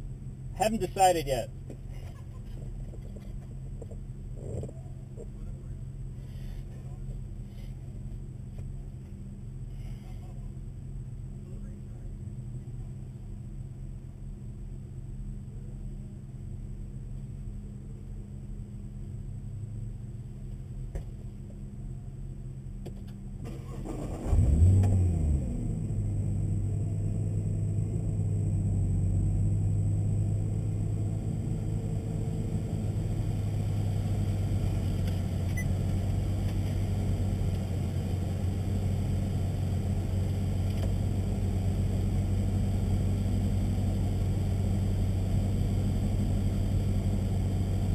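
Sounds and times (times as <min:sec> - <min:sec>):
car engine starting and idling: 0:00.0 - 0:47.9
low steady hum: 0:00.0 - 0:47.9.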